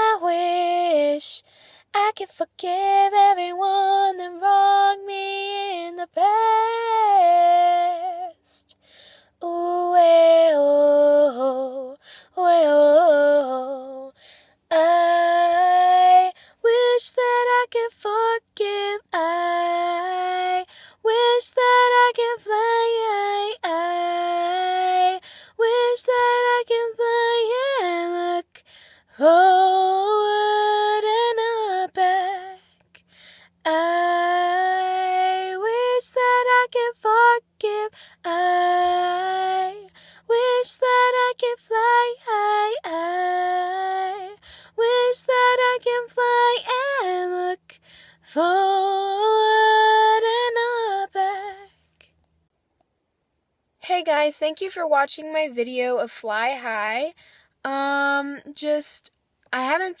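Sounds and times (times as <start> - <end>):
girl singing unaccompanied: 0.0 - 51.8, 53.8 - 60.0.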